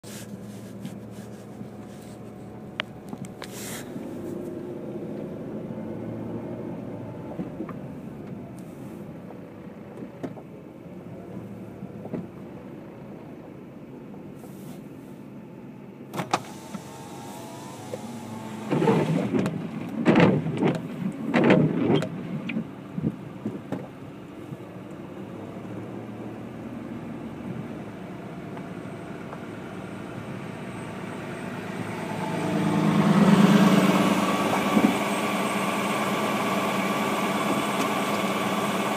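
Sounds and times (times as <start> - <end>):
car engine and tyres humming: 0.0 - 38.9.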